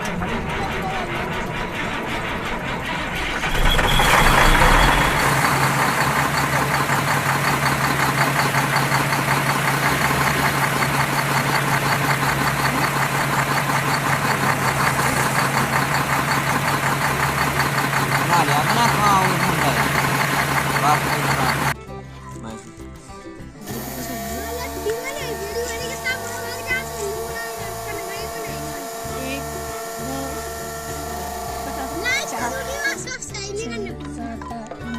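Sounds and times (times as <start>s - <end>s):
vehicle engine clattering: 0.0s - 34.9s.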